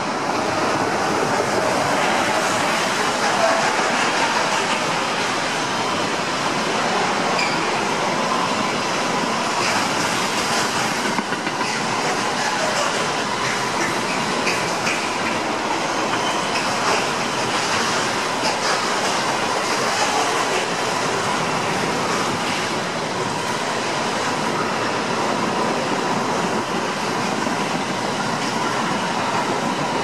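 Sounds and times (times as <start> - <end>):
train wheels rushing on rail: 0.0 - 30.0.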